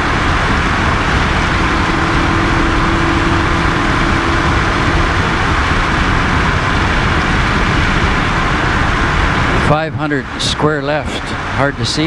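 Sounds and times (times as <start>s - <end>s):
rally car engine: 0.0s - 12.0s
road noise: 0.0s - 12.0s.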